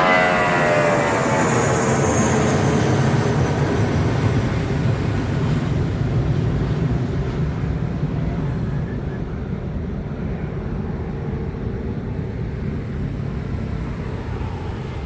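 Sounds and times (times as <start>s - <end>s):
jet engine whine: 0.0s - 15.0s
plane engines roaring: 0.0s - 15.0s.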